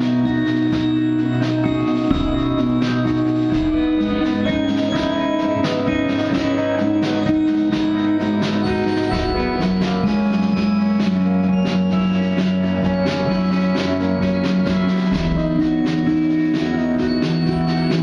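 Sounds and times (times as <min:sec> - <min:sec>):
drum kit steady beat: 0:00.0 - 0:18.0
guitar: 0:00.0 - 0:18.0
keyboard synthesizer notes: 0:00.0 - 0:18.0.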